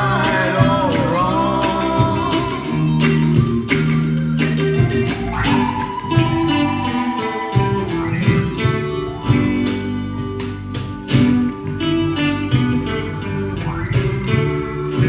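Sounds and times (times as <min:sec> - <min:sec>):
acoustic guitar: 0:00.0 - 0:15.0
bass guitar: 0:00.0 - 0:15.0
cajon beat: 0:00.0 - 0:15.0
electric guitar: 0:00.0 - 0:15.0
keyboard: 0:00.0 - 0:15.0.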